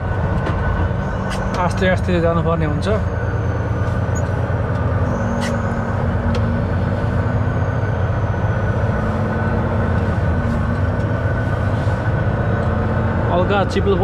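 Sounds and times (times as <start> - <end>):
road noise: 0.0 - 14.0
truck diesel engine drone: 0.0 - 14.0.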